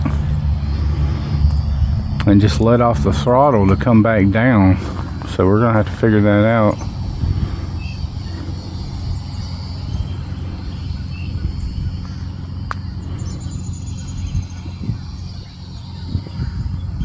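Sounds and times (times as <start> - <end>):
high chirps: 0.0 - 17.0
wind buffeting microphone: 0.0 - 17.0.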